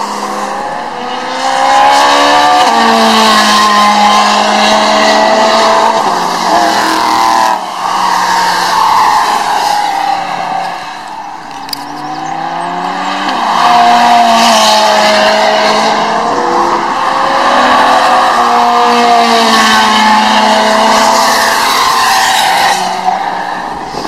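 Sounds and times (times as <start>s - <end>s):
race car engines driving past: 0.0s - 24.0s.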